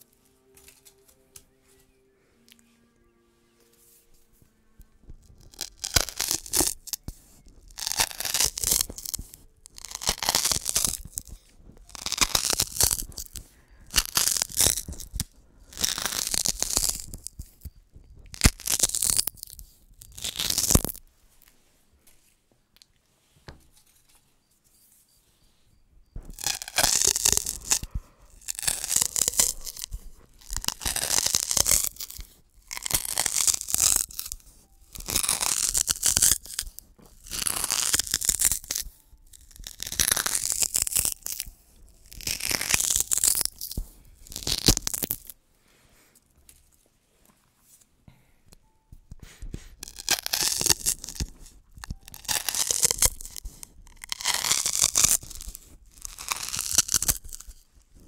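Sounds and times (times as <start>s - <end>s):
straws crackling when handled: 0.0s - 24.3s, 26.0s - 45.4s, 48.6s - 58.0s.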